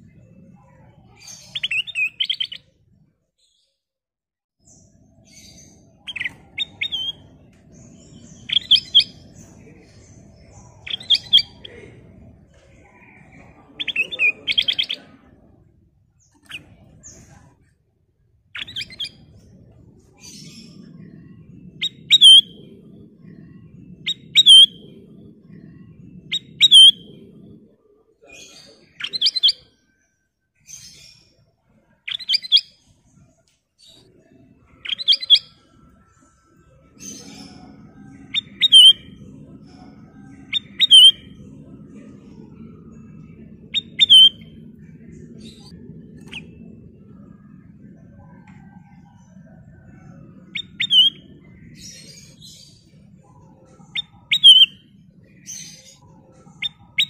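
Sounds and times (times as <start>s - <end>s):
bird chirping: 0.0s - 2.7s, 4.6s - 17.5s, 18.6s - 30.0s, 32.1s - 57.0s
faint low hum: 4.6s - 57.0s.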